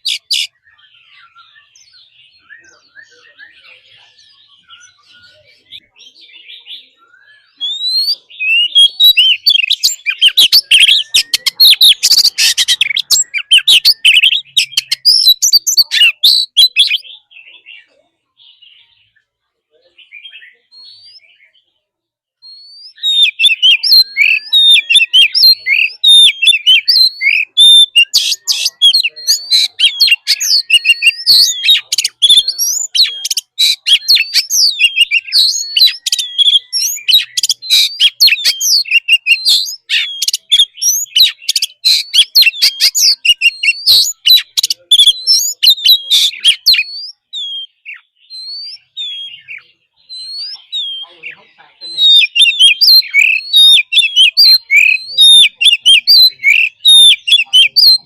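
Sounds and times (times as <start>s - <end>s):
magpie-robin singing: 0.0s - 58.0s.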